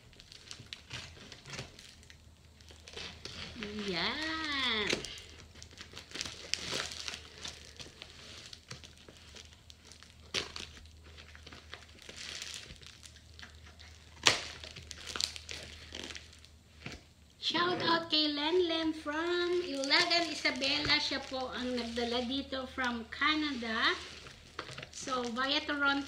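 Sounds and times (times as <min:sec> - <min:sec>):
plastic wrapping crinkling: 0:00.0 - 0:17.4, 0:18.6 - 0:26.0.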